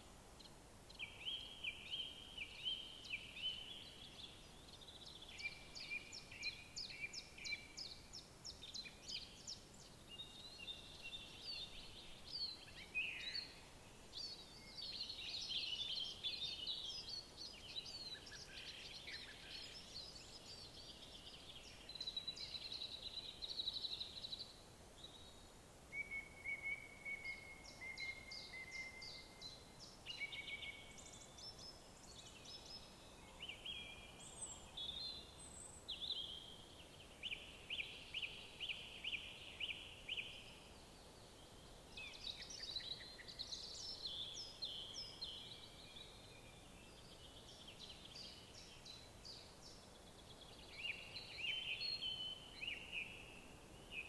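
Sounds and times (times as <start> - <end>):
faint steady background hiss: 0.0 - 54.0
songbirds singing and calling: 0.0 - 54.0.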